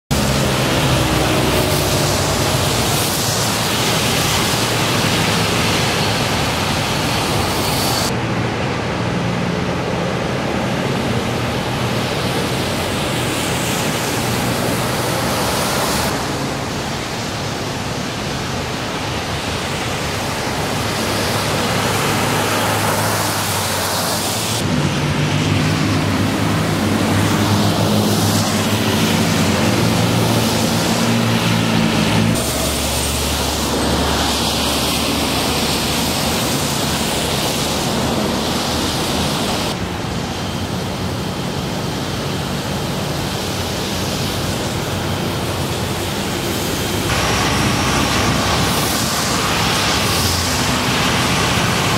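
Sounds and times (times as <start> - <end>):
passing engines hum: 0.1 - 51.9
rain: 0.1 - 51.9
tyres hissing on wet road: 0.1 - 51.9.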